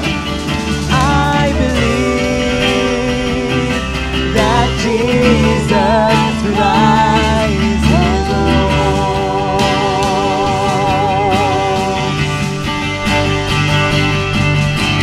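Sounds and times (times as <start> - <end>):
worship band music: 0.0 - 15.0.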